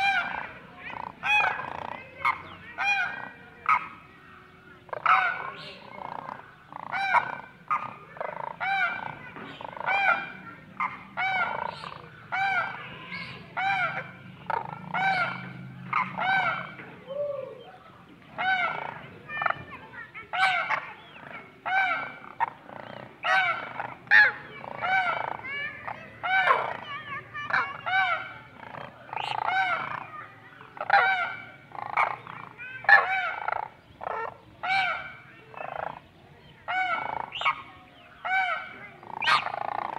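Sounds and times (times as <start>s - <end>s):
partridges calling: 0.0s - 39.9s.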